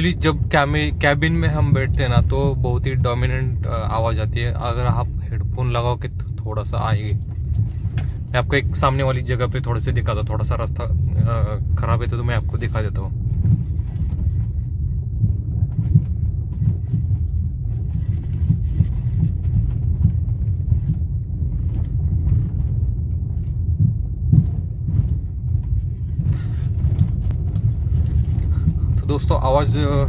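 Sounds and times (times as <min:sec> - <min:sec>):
car rattling: 0:00.0 - 0:30.0
road rumble: 0:00.0 - 0:30.0.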